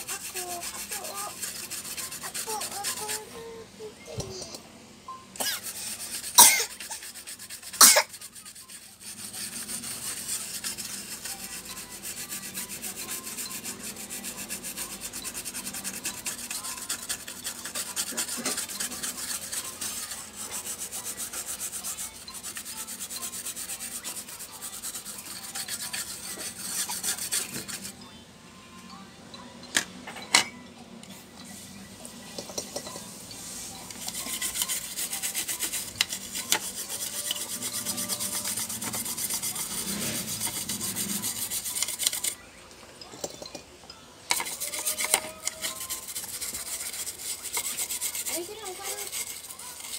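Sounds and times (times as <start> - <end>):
brush scrubbing circuit board: 0.0 - 3.5, 5.4 - 28.0, 33.4 - 42.4, 44.3 - 49.9.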